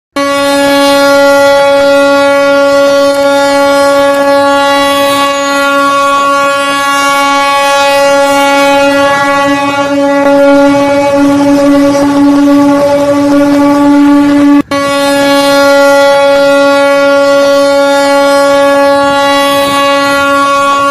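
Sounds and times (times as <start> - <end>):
ship's horn blast: 0.1 - 20.9.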